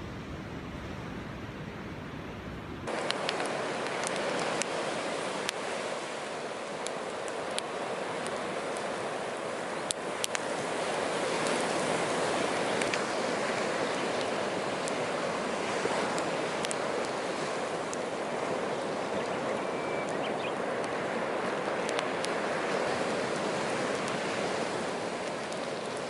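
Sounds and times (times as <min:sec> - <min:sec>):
surf washing on shore: 0:00.0 - 0:26.0
fire crackling and popping: 0:02.8 - 0:26.0.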